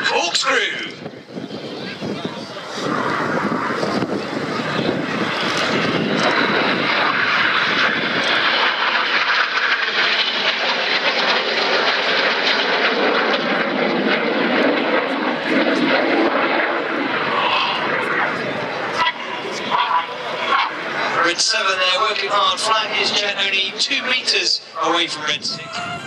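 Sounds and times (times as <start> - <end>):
jets flying by: 0.0 - 26.0.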